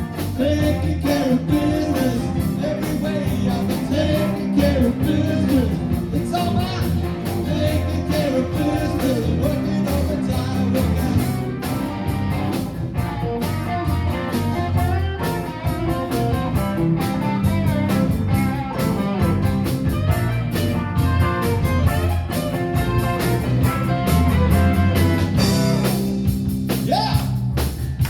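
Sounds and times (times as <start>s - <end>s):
electric guitar melody: 0.0s - 26.7s
bass: 0.0s - 28.0s
steady drum beat: 0.0s - 28.0s.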